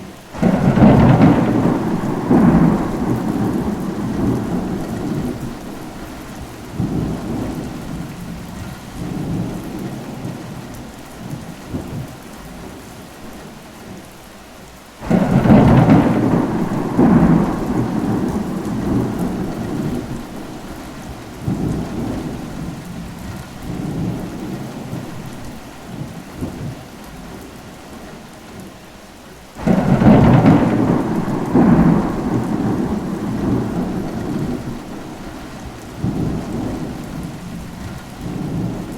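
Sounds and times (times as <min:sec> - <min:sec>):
steady rain: 0:00.0 - 0:38.9
thunderclap rumbling: 0:00.4 - 0:12.1, 0:15.0 - 0:26.8, 0:29.6 - 0:38.9.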